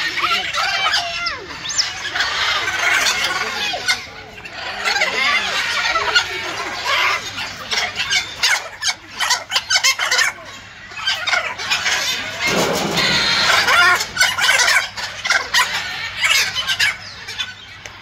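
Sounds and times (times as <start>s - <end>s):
macaws squawking: 0.0s - 18.0s.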